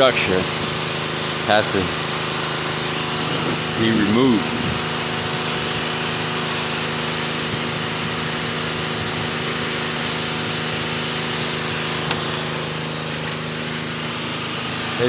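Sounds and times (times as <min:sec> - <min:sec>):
pressure washer running: 0:00.0 - 0:15.0.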